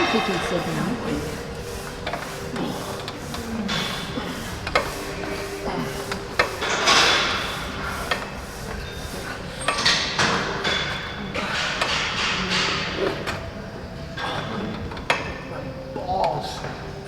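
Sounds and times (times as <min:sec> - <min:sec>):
busy gym background: 0:00.0 - 0:17.0.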